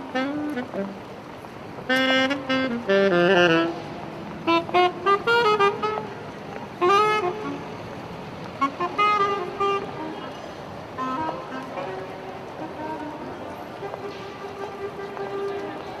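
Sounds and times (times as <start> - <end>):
saxophone melody: 0.0 - 16.0.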